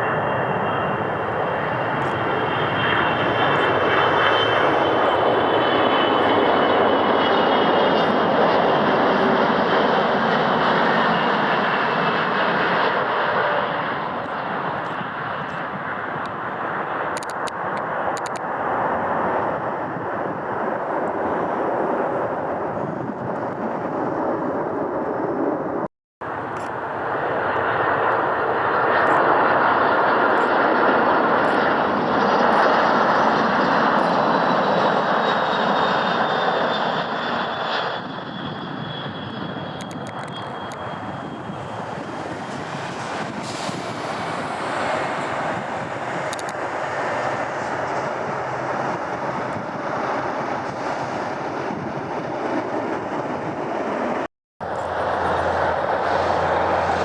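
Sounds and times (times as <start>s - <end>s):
high turbine whine: 0.0s - 23.2s, 23.8s - 57.0s
jet engines running: 0.0s - 57.0s.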